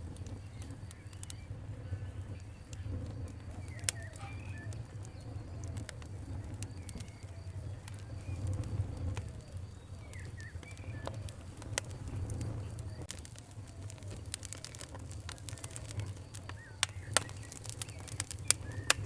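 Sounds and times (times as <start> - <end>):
wood fire crackling: 0.0 - 19.0
faint bird calls: 0.3 - 19.0.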